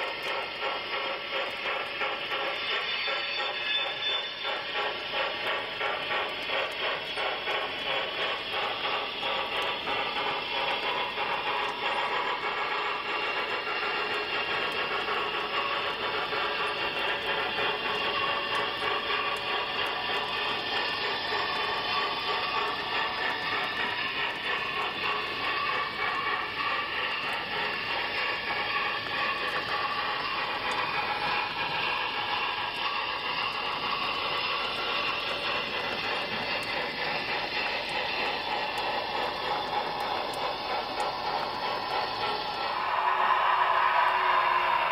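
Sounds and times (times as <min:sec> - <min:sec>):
model train whirring on track: 0:00.0 - 0:44.9.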